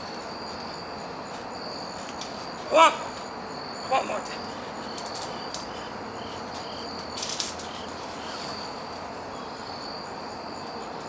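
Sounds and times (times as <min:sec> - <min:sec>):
high-pitched insect chirping: 0:00.0 - 0:11.0
soft outdoor hiss: 0:00.0 - 0:11.0.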